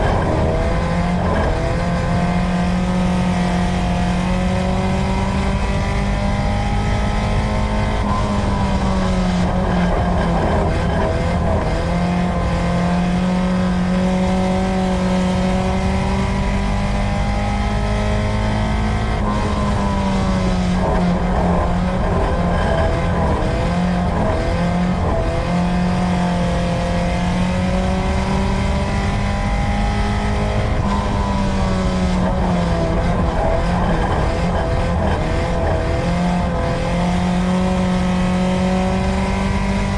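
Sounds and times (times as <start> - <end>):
race car engine revving: 0.0 - 39.9
road and tyre noise: 0.0 - 39.9.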